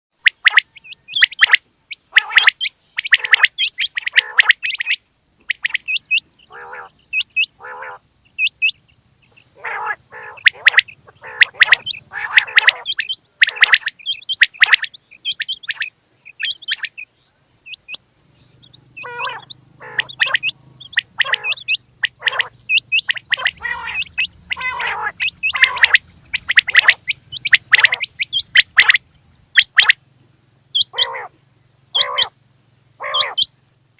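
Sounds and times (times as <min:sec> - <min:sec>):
quail calling: 0:00.2 - 0:18.0, 0:18.6 - 0:30.0, 0:30.7 - 0:32.4, 0:33.0 - 0:33.5.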